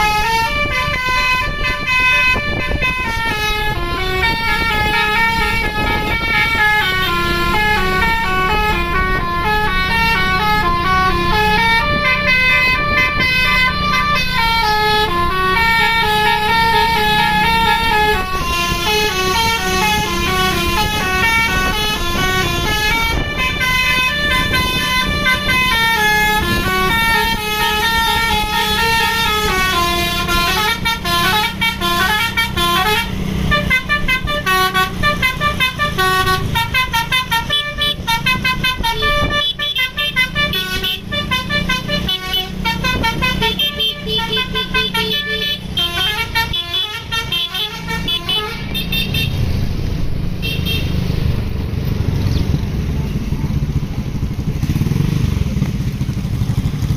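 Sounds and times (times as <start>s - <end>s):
multi-tone bus horn melody: 0.0s - 51.1s
bus engine running: 0.0s - 56.9s.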